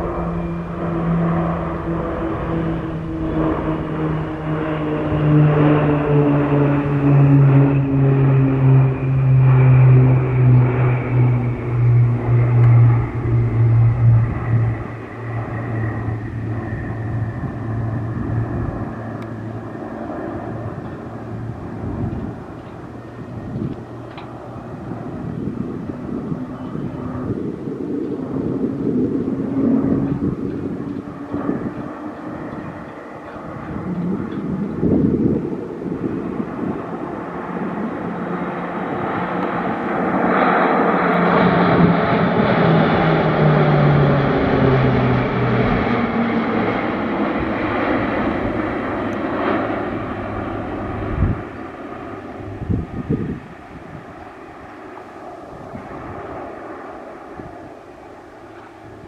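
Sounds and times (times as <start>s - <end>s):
turboprop aircraft flying past: 0.0s - 59.0s.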